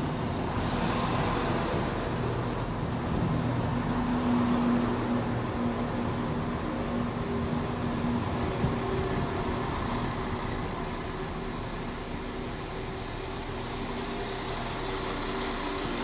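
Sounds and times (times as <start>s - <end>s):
diesel train engines humming: 0.0s - 16.0s.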